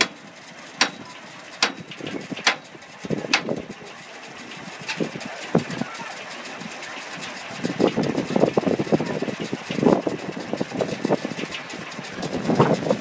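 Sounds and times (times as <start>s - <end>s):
steam engine running slowly: 0.0s - 13.0s.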